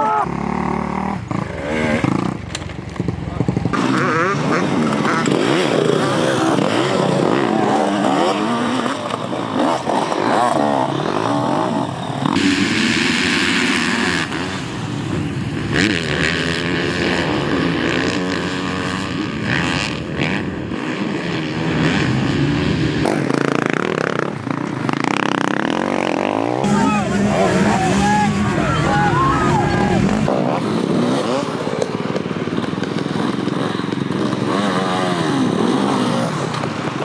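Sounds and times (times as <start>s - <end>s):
dirt bike engines revving: 0.0s - 37.0s.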